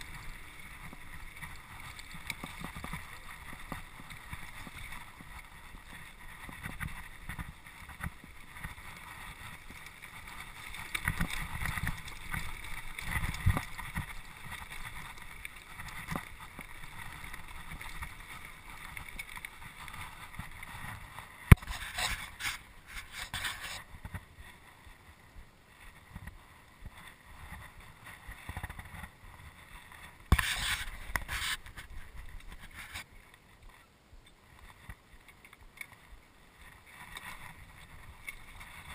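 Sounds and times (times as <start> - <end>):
bike rattling: 0.0 - 38.9
bike tyres rolling over stones: 0.0 - 38.9.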